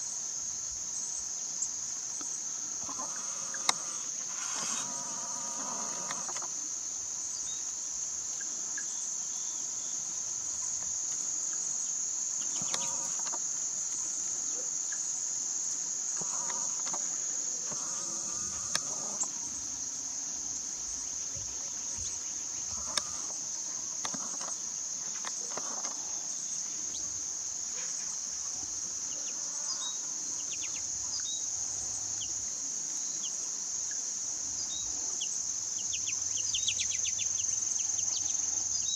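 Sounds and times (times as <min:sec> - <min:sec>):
insect chorus trilling: 0:00.0 - 0:38.9.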